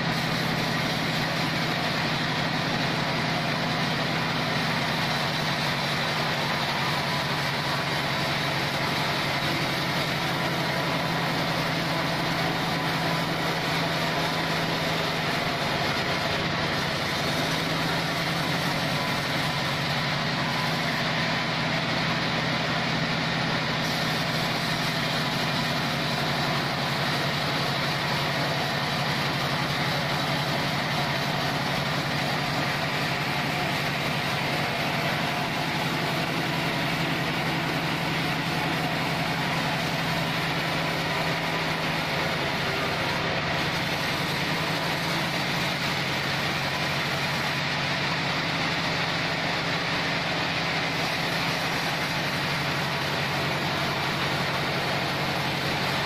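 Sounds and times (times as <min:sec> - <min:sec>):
band saw mill droning: 0:00.0 - 0:56.0.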